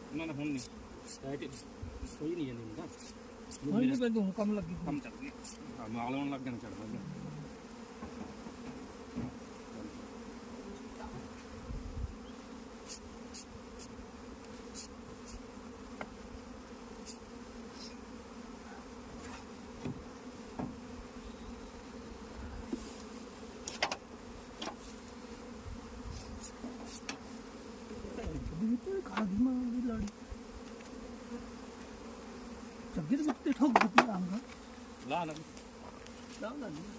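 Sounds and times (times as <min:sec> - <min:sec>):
honeybees buzzing: 0:00.0 - 0:36.9.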